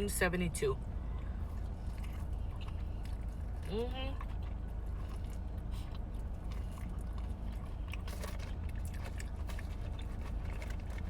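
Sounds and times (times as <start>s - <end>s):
low hum: 0.0s - 11.0s
person chewing and biting: 1.2s - 11.0s.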